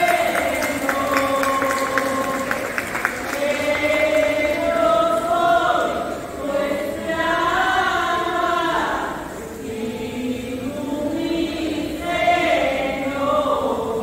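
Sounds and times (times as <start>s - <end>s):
group singing a hymn: 0.0s - 14.0s.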